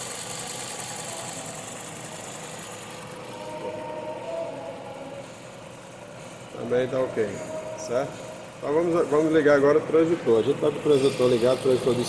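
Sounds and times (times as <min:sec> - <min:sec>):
car engine idling with misfires: 0:00.0 - 0:12.0.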